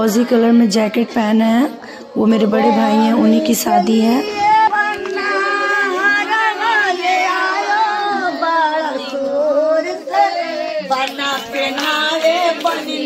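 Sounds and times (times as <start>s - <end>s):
women singing folk song: 0.0s - 13.0s.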